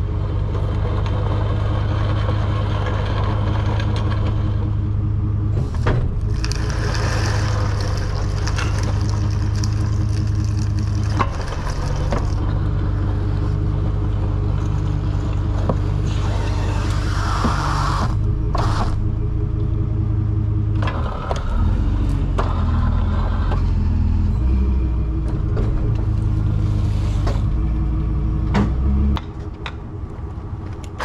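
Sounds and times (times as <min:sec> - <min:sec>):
truck engine running at low revs: 0:00.0 - 0:31.0.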